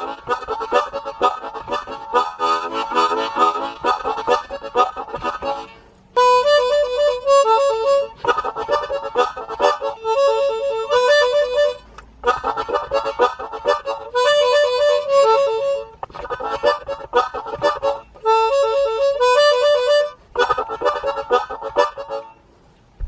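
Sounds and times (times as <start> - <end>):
harmonica playing a riff: 0.0 - 22.5.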